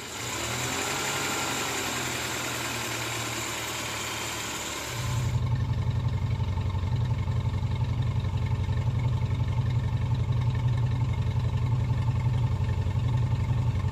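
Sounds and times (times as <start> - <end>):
car engine running steadily: 0.0 - 13.9.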